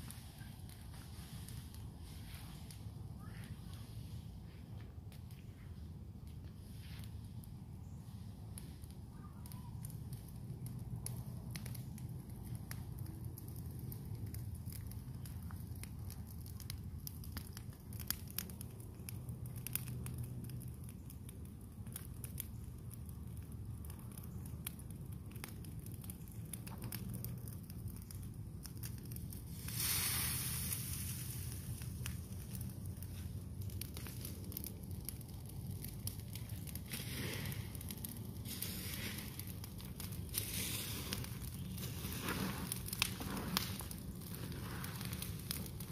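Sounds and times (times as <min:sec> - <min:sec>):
brush pile burning and crackling: 0:00.0 - 0:45.9.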